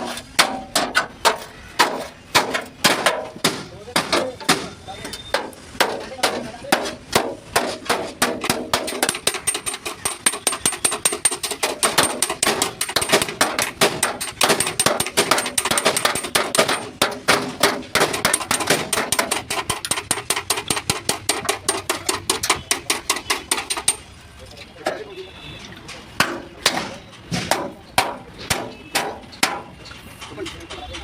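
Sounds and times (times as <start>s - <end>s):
hammering on sheet steel: 0.0s - 24.1s, 26.0s - 31.0s.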